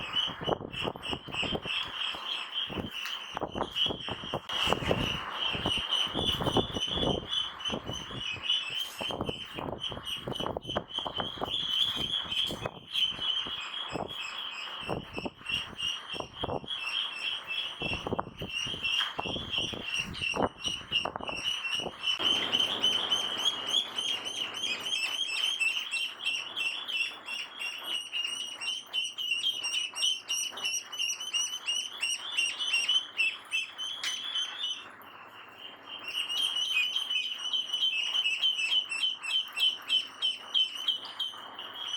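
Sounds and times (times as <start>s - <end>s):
ducklings peeping: 0.0s - 34.8s.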